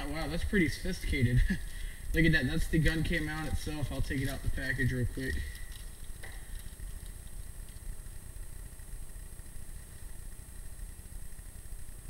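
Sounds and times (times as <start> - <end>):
faint high-pitched whine: 0.0 - 12.0
low background rumble: 0.0 - 12.0.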